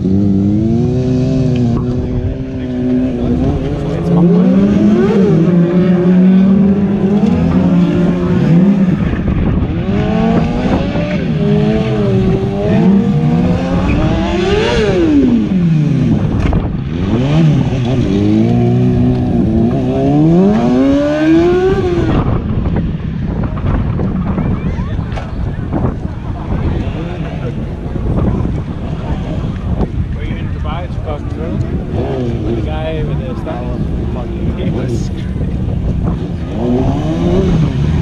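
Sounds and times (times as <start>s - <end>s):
motorcycle engine revving: 0.0s - 24.2s, 31.1s - 38.0s.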